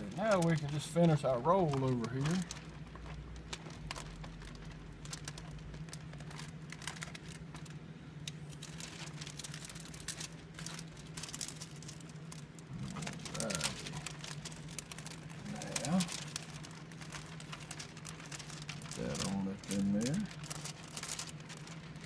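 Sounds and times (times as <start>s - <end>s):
plastic film crinkling: 0.0s - 22.0s
steady low hum: 0.0s - 22.0s.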